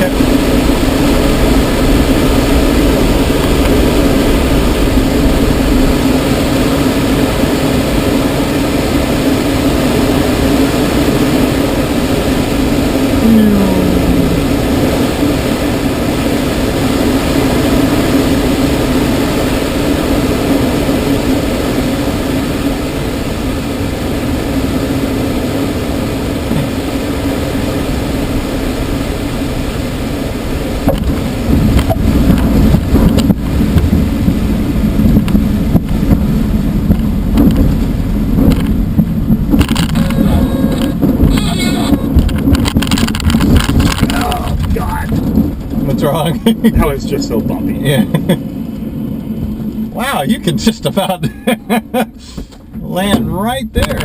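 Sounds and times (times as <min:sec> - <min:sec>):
rush of air over canopy: 0:00.0 - 0:54.0
steady low drone: 0:00.0 - 0:54.0.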